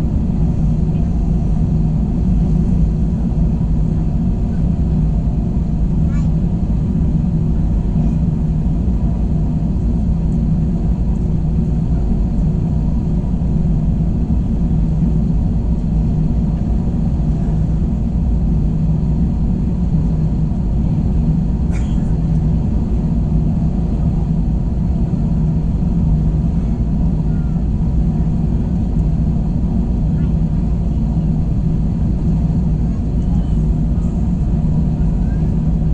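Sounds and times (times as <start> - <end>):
airliner cabin drone: 0.0 - 35.9.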